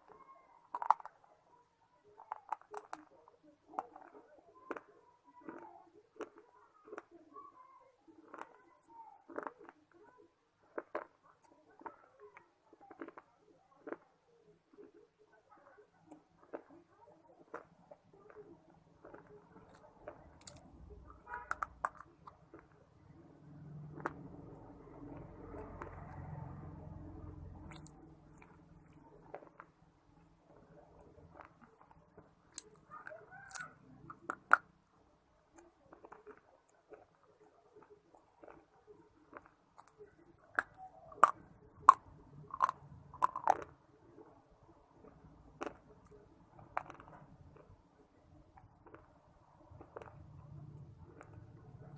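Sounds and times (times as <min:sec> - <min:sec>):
biting and chewing crunchy clay: 0:00.0 - 0:01.3, 0:02.0 - 0:07.4, 0:08.1 - 0:15.2, 0:15.8 - 0:51.9.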